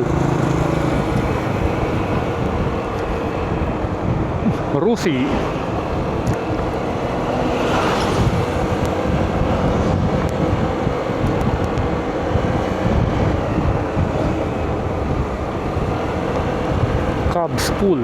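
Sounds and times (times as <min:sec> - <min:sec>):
moving vehicle rumble: 0:00.0 - 0:18.0
wind on microphone: 0:00.0 - 0:18.0.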